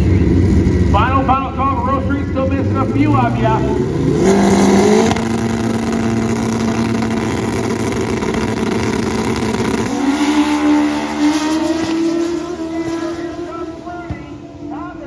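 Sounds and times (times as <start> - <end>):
motorcycles revving and accelerating: 0.0 - 15.0.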